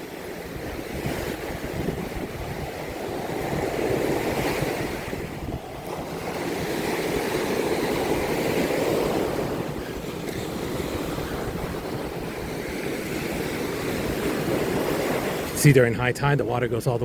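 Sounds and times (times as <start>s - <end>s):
ocean surf on sandy beach: 0.0s - 17.0s.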